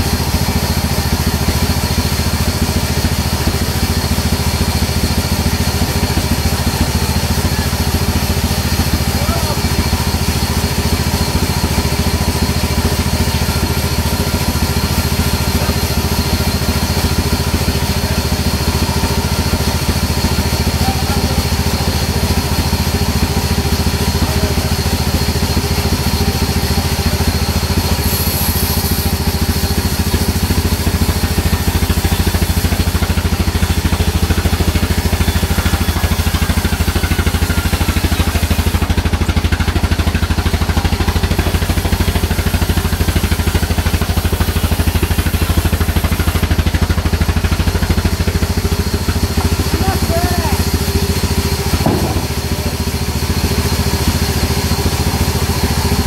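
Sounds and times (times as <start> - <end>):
band saw cutting log: 0.0 - 56.0.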